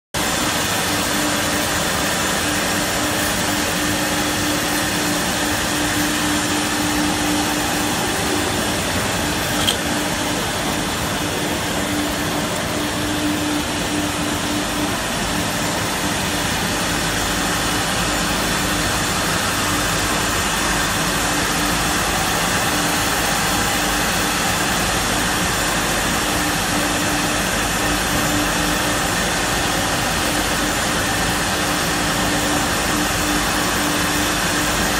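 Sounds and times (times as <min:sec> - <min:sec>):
machine hum: 0:00.2 - 0:34.9
mortising machine running: 0:00.2 - 0:34.9.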